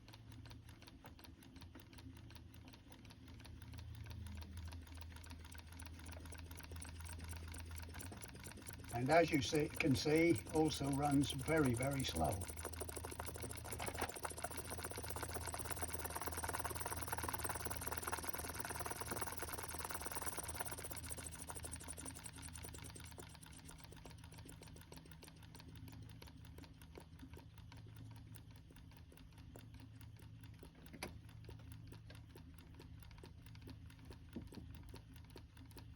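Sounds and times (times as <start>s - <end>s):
low electrical hum: 0.0s - 35.9s
solenoid engine clicking: 0.0s - 35.9s.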